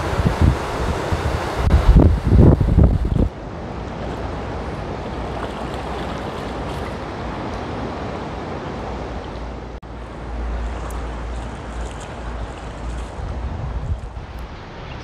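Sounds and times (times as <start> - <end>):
wind on microphone: 0.0 - 9.6, 11.1 - 15.0
ocean surf washing: 0.0 - 15.0.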